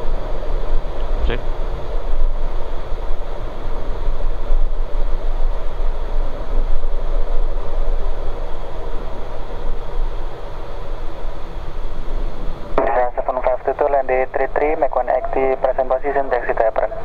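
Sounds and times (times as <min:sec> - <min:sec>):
turboprop engines running: 0:00.0 - 0:17.0.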